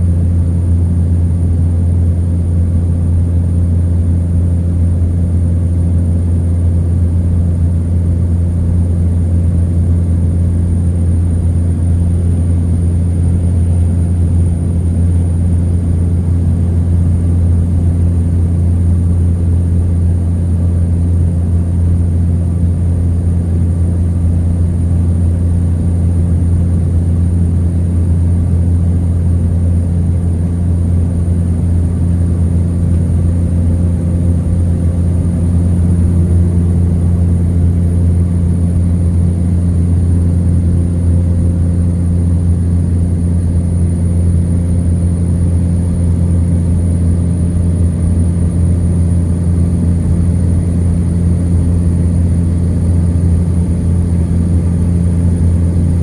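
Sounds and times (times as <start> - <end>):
turboprop engine drone: 0.0 - 56.0.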